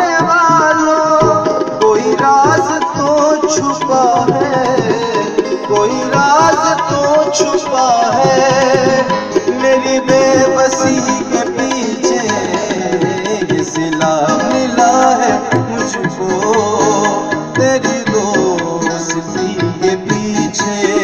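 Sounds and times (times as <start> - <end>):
electronic keyboard: 0.0 - 21.0
harmonium melody: 0.0 - 21.0
tabla playing quick rhythm: 0.0 - 21.0.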